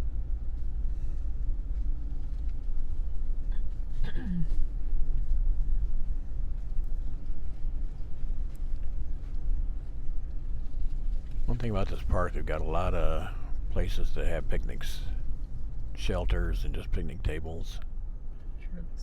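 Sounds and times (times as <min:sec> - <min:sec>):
vehicle interior road rumble: 0:00.0 - 0:19.0.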